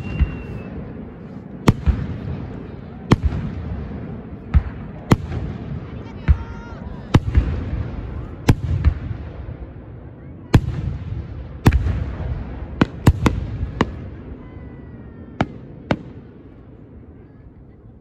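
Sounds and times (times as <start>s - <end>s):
fireworks bangs: 0.0s - 16.9s.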